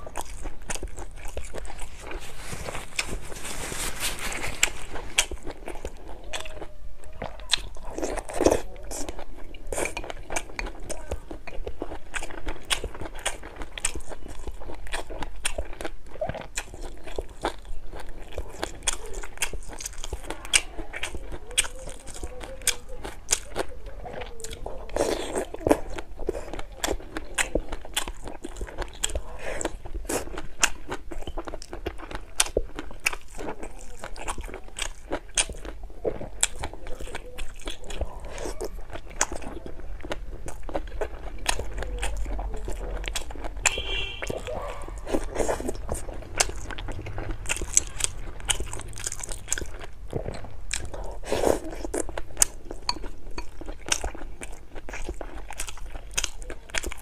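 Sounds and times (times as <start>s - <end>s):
chewing and biting: 0.0s - 57.0s.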